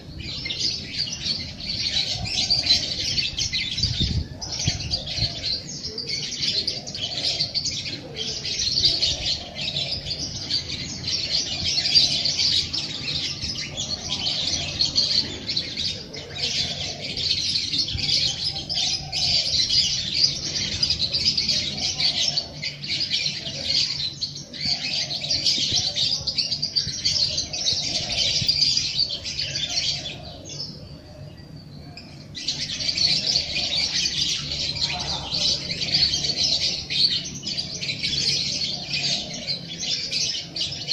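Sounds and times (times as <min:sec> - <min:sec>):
many small birds chirping: 0:00.0 - 0:40.9.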